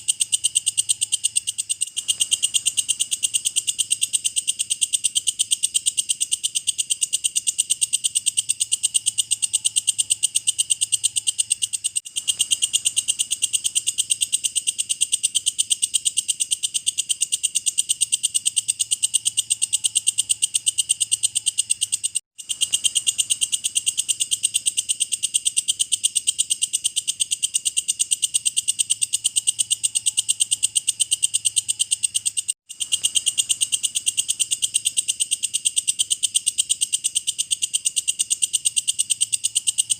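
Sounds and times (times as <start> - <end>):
katydid calling: 0.0 - 39.9.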